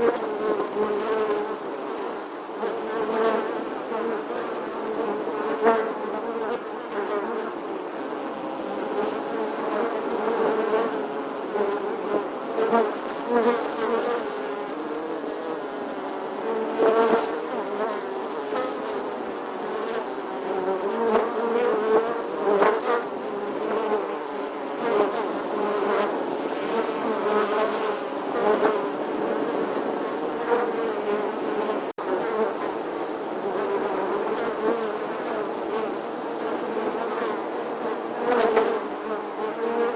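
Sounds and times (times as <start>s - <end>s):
bee buzzing: 0.0s - 39.9s.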